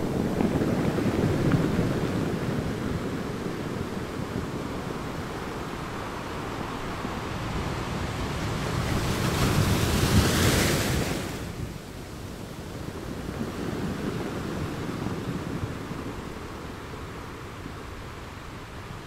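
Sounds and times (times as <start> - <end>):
low rumble of surf: 0.0 - 19.0.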